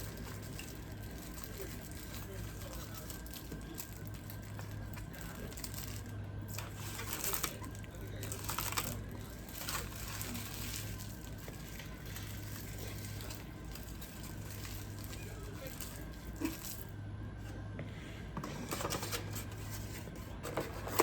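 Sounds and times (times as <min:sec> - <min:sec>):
food packaging crinkles and clicks: 0:00.0 - 0:17.0, 0:18.7 - 0:21.0
low electrical hum: 0:00.0 - 0:21.0.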